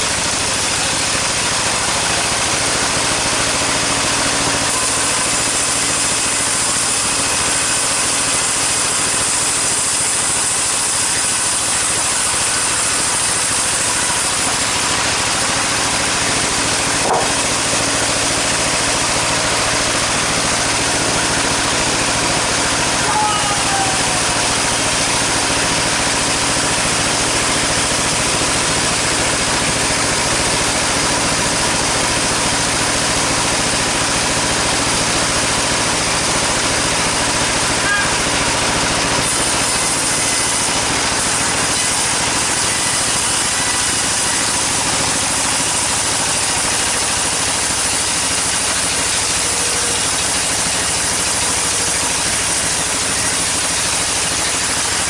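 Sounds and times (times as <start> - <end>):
sawmill saw cutting timber: 0.0 - 55.0.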